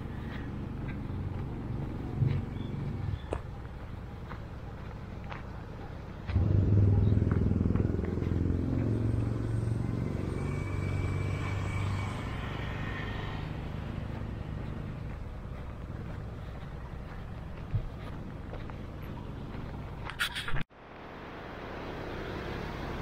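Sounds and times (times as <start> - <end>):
vehicle engine running: 0.0 - 5.0, 6.0 - 20.1.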